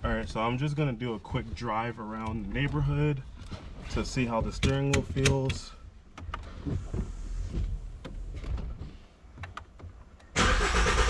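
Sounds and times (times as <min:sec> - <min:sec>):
soft rustling: 0:00.3 - 0:10.2
light clicks and knocks: 0:01.3 - 0:10.4.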